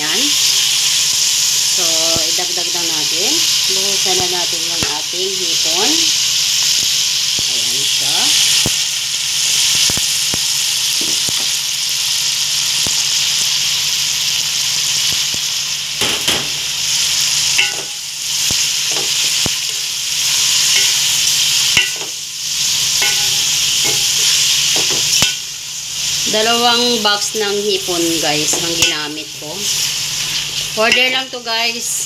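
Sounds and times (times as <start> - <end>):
food sizzling in pot: 0.0 - 32.0.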